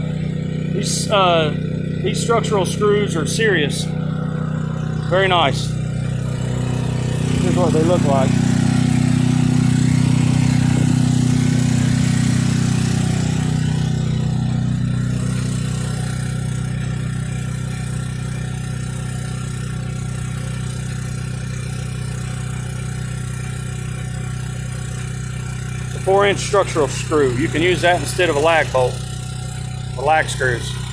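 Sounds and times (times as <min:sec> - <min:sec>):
engine running steadily: 0:00.0 - 0:30.9.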